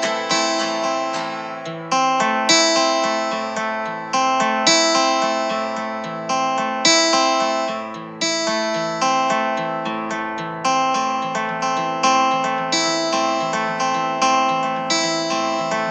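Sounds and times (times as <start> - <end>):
acoustic guitar plucked chords: 0.0 - 15.9.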